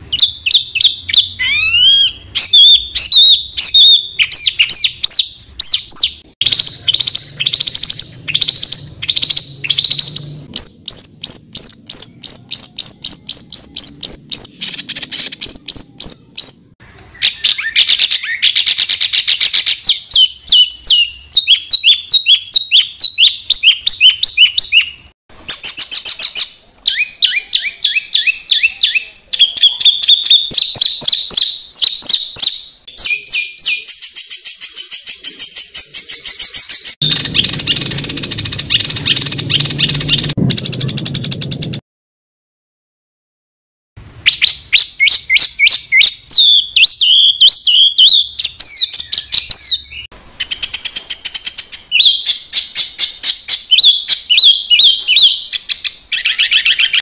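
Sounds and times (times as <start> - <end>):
songbird rapid high chirps: 0.0 - 41.8, 44.3 - 57.0.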